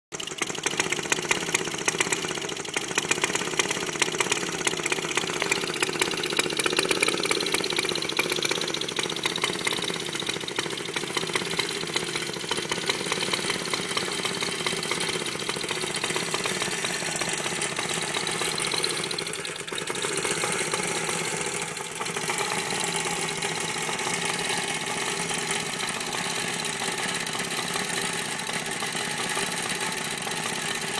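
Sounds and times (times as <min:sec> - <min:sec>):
engine popping: 0:00.1 - 0:30.9
mower engine running: 0:00.1 - 0:30.9.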